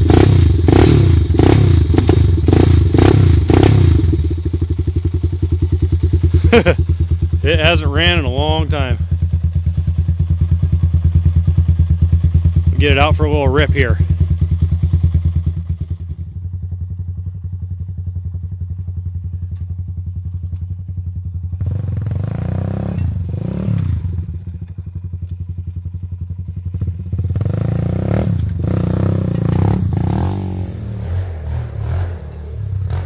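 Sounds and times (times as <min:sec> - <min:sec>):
three-wheeler engine revving: 0:00.0 - 0:18.5, 0:20.2 - 0:33.0.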